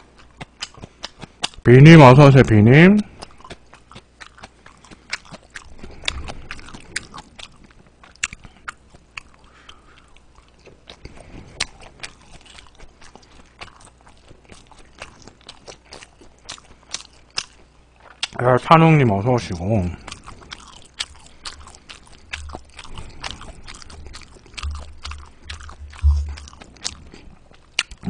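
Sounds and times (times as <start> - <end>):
wet chewing clicks and smacks: 0.0 - 2.0, 3.0 - 18.5, 19.4 - 28.0.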